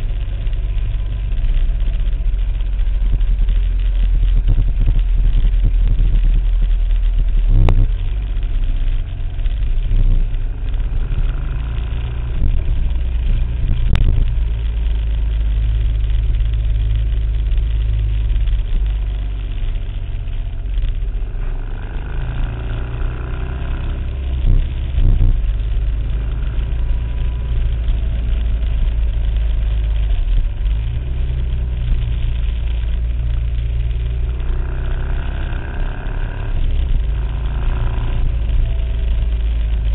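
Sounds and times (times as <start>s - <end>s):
engine deep rumble: 0.0s - 39.9s.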